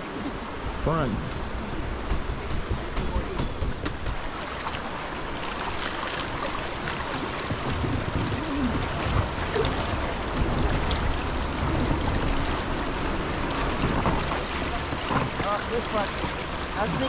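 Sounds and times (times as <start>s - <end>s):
river water rushing around raft: 0.0s - 17.0s.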